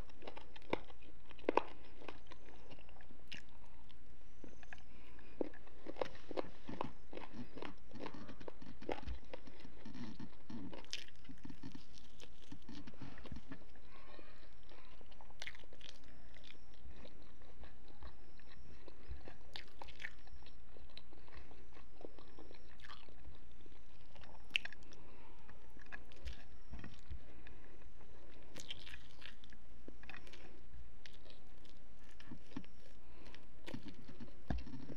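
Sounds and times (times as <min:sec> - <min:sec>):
person chewing food: 0:00.0 - 0:34.9.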